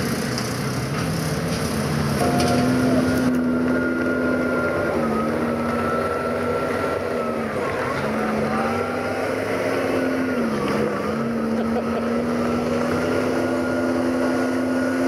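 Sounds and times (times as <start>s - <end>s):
car engines at low revs: 0.0s - 15.0s.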